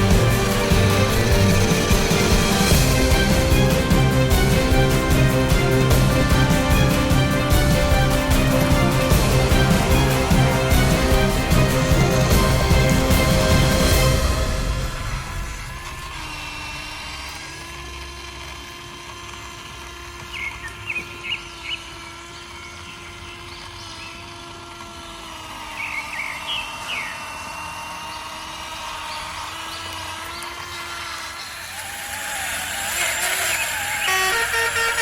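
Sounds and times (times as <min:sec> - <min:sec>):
electric motor whining: 0:00.0 - 0:35.0.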